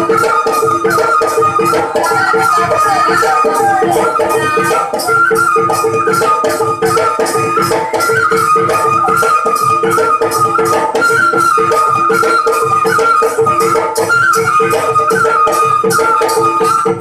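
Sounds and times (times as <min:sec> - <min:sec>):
high wavering melody: 0:00.0 - 0:16.4
quick high percussion beat: 0:00.0 - 0:17.0.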